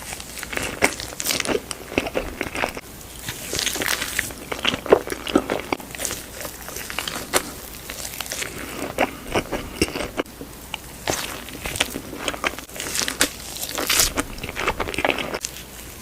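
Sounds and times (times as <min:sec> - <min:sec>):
crunchy food chewing: 0:00.0 - 0:16.0.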